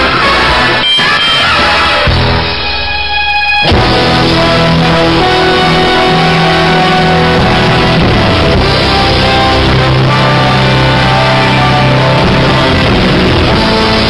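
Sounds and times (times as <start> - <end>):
loud instrumental music: 0.0 - 14.0.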